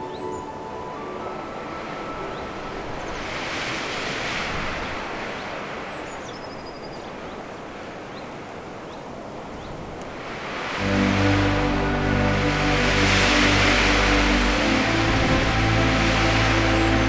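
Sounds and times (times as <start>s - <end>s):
rushing wind-like noise: 0.0s - 17.0s.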